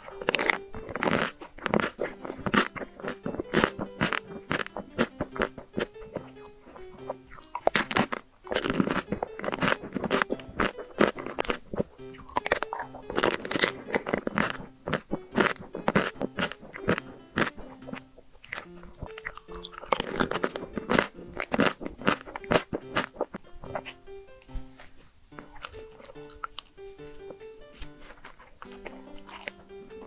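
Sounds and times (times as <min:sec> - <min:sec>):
background music: 0:00.0 - 0:30.0
chewing chocolate crunches: 0:00.0 - 0:30.0.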